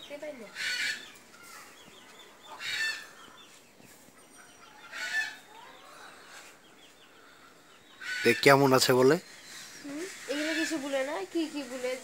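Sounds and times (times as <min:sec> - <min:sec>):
chickens clucking: 0:00.0 - 0:12.0
faint bird chirps: 0:00.0 - 0:12.0.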